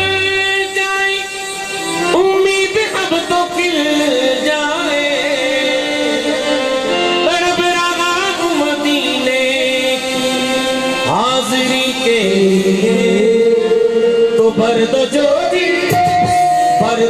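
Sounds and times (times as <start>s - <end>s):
harmonium notes: 0.0s - 17.0s
man singing long notes: 0.0s - 17.0s.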